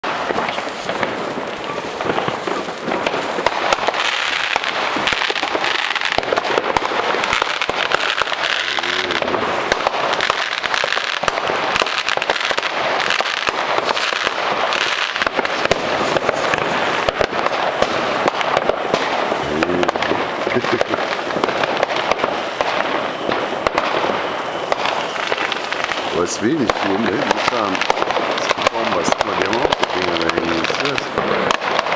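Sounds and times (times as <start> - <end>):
fireworks crackling and popping: 0.0 - 31.9.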